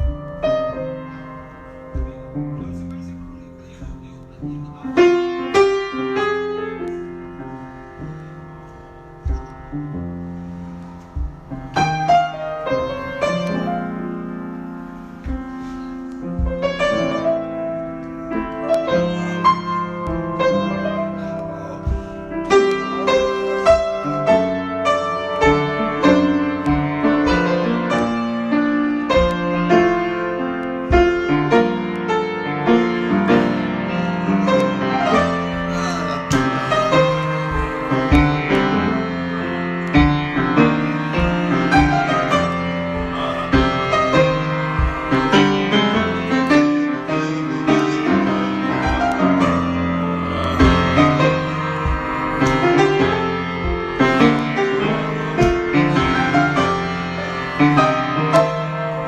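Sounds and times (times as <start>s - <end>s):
improvised piano playing: 0.0s - 59.0s.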